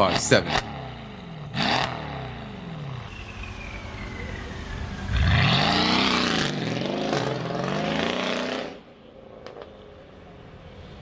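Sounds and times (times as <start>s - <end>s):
car engine accelerating hard: 0.0s - 8.9s.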